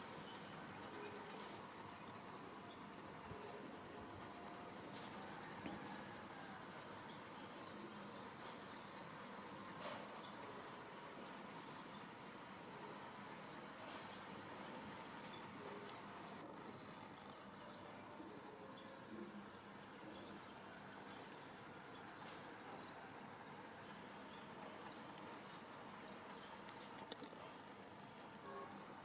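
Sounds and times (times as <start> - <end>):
faint background hiss: 0.0 - 29.0.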